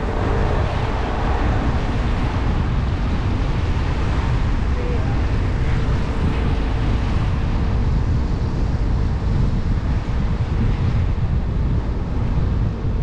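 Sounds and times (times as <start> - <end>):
tyres rumbling on wet road: 0.0 - 10.6
wind on microphone: 0.0 - 13.0.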